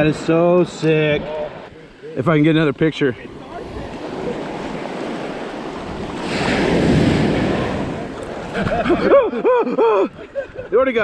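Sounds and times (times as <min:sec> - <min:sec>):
surf wave washing on sand: 0:00.0 - 0:11.0.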